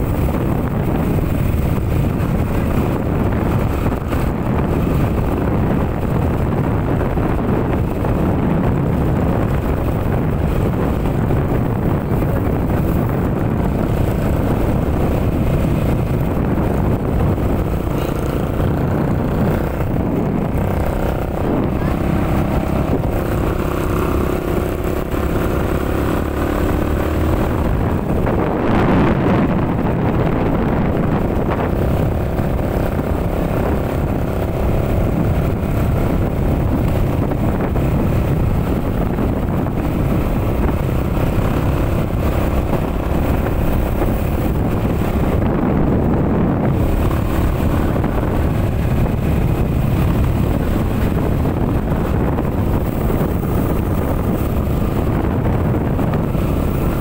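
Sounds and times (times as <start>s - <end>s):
car road and engine noise: 0.0s - 57.0s
wind rushing over microphone: 0.0s - 57.0s.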